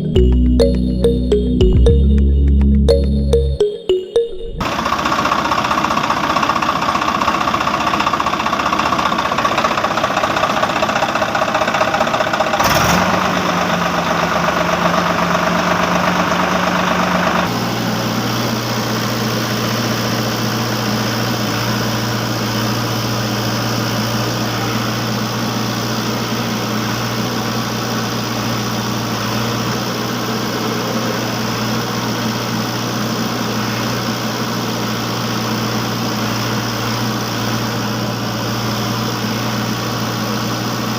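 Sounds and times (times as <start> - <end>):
engine running: 4.6 - 40.9.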